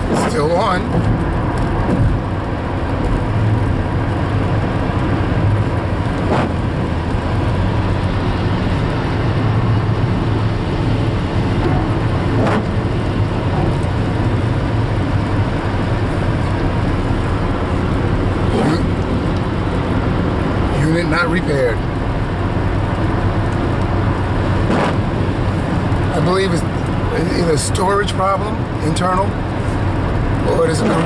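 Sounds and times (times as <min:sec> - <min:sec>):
car cabin road rumble: 0:00.0 - 0:31.0.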